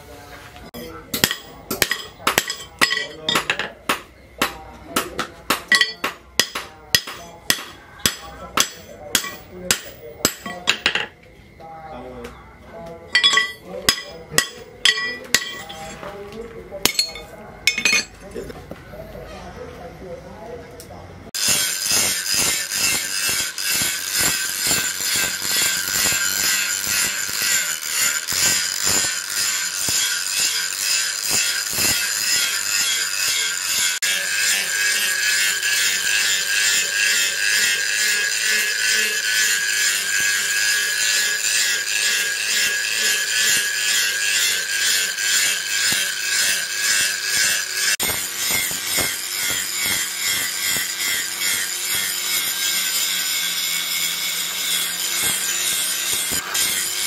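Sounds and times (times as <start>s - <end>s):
angle grinder grinding steel: 0.7s - 3.8s, 5.0s - 11.1s, 13.1s - 18.1s, 21.3s - 57.0s.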